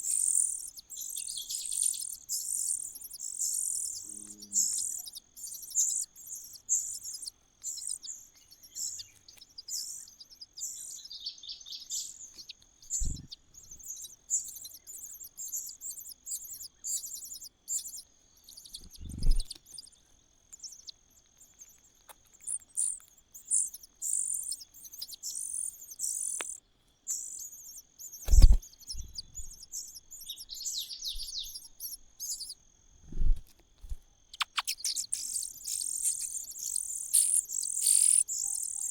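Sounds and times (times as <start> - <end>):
nestling birds begging chirps: 0.0 - 32.7, 33.8 - 38.9.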